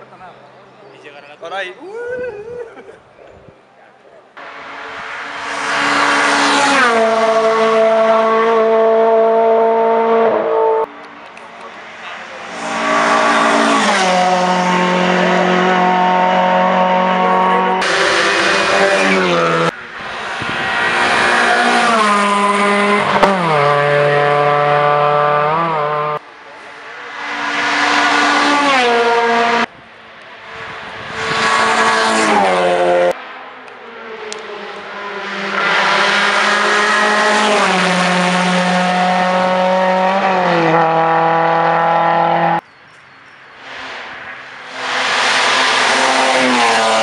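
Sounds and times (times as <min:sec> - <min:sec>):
race cars accelerating through gears: 0:04.4 - 0:26.2, 0:26.8 - 0:42.6, 0:43.6 - 0:47.0.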